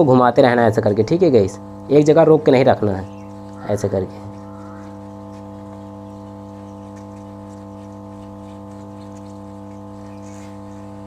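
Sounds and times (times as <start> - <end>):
hot-air blower humming: 0.0 - 11.0.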